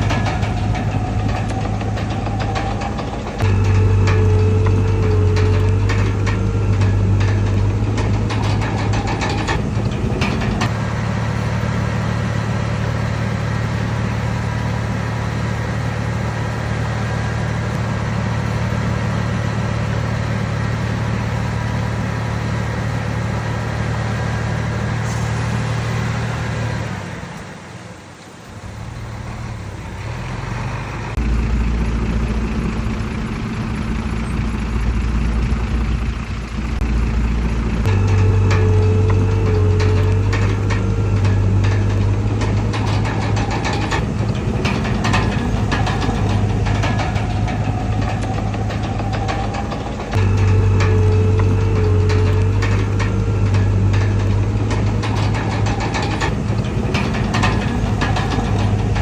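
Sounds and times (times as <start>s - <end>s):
rapid clatter: 0.0s - 24.8s, 31.1s - 59.0s
heavy diesel engine running: 0.0s - 59.0s.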